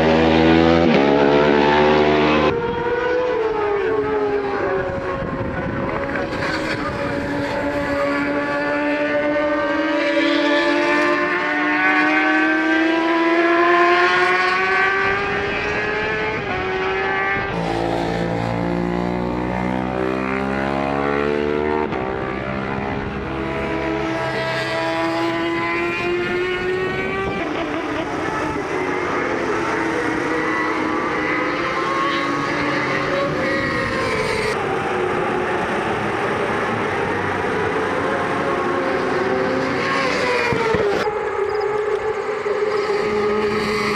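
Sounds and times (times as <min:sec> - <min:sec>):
superbike engines passing at high revs: 0:00.0 - 0:43.9.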